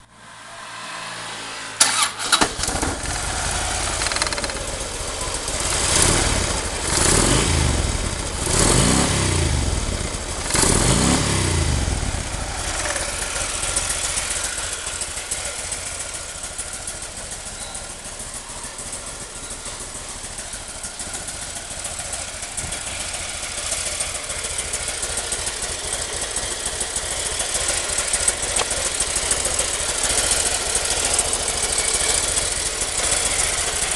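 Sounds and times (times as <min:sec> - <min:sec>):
motorcycle engine revving: 0:00.2 - 0:33.9
motorcycle engine starting: 0:01.2 - 0:33.9
motorcycle engine idling: 0:01.8 - 0:33.9.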